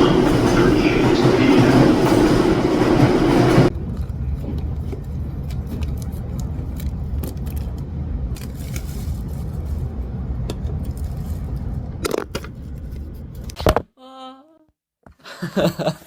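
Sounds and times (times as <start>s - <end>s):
train rumble inside carriage: 0.0s - 13.6s.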